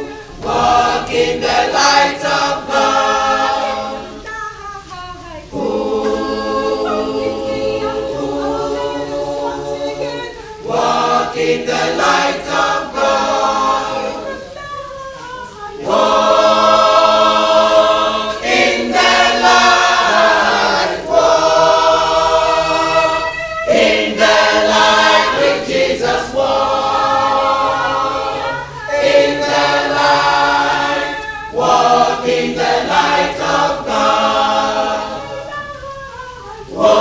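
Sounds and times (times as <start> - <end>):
group singing gospel song: 0.0 - 37.0.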